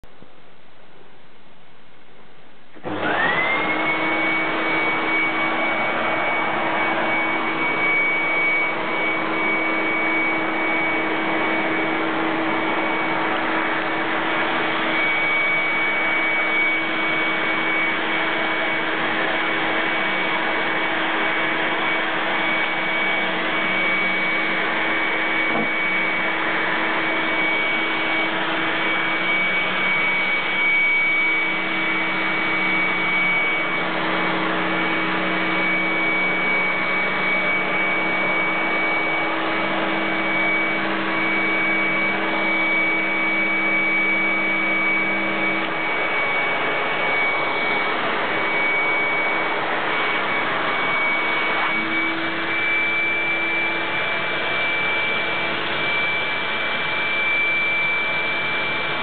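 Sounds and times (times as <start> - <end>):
vacuum cleaner whining: 2.7 - 59.0.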